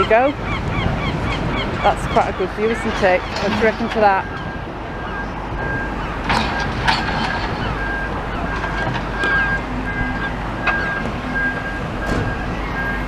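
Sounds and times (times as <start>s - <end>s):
traffic: 0.0s - 13.0s
wind on microphone: 0.0s - 13.0s.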